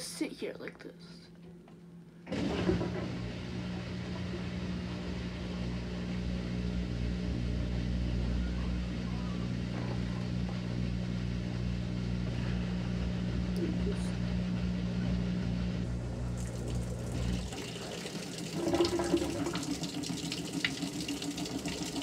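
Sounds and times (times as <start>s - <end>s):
washing machine spinning: 1.6s - 22.0s
drain pump running: 2.2s - 22.0s.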